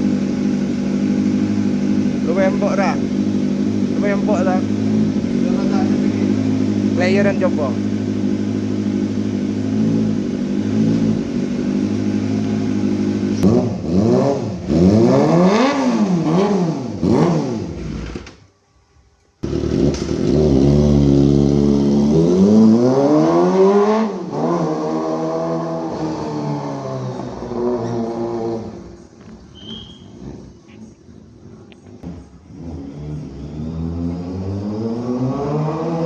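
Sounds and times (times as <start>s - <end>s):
motorcycle engine idling and revving: 0.0s - 18.5s, 19.3s - 36.0s.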